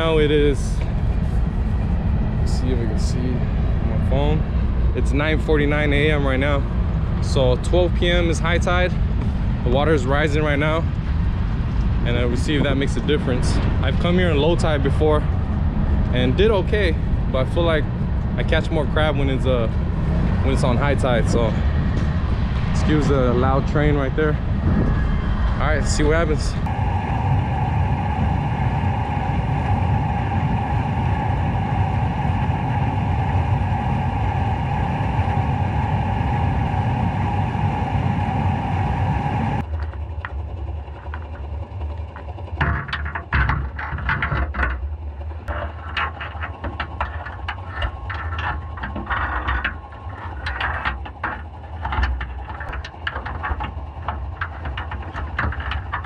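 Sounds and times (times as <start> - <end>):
passing train rumble: 0.0 - 56.0.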